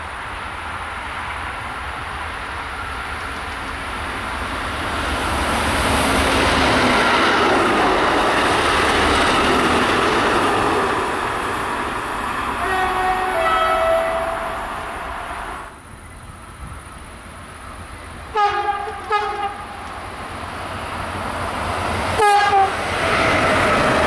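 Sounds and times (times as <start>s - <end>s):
diesel locomotive engine: 0.0s - 24.0s
train wheel noise: 0.0s - 24.0s.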